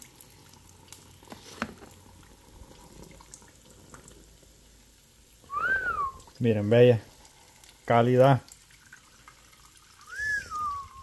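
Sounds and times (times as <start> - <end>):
oil frying with pops: 0.0 - 11.0.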